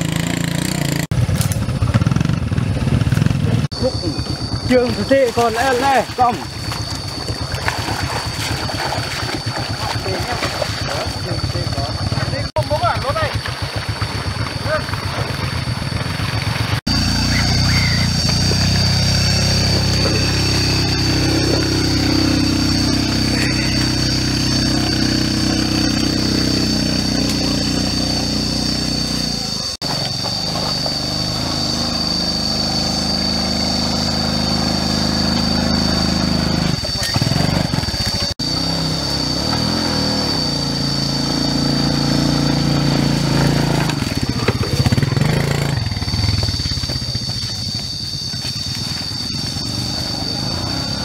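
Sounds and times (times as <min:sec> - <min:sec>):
small motorcycle engines revving: 0:00.0 - 0:51.0.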